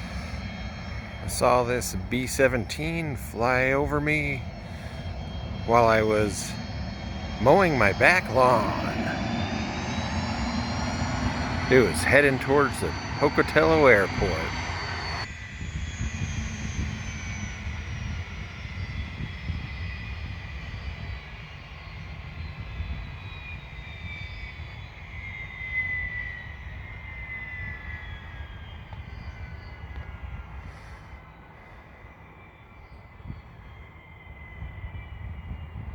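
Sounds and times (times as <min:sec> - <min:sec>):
propeller plane engines droning: 0:00.0 - 0:35.9.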